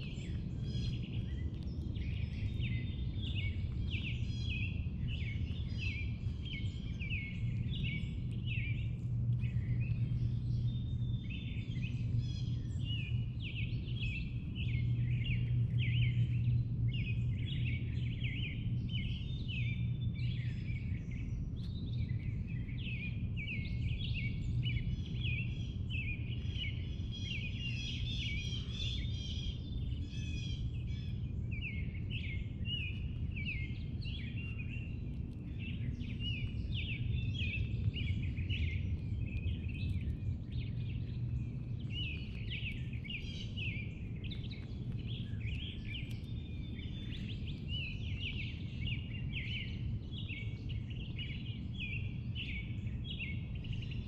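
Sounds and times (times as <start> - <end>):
low background rumble: 0.0 - 54.0
songbirds chirping and singing: 0.0 - 54.0.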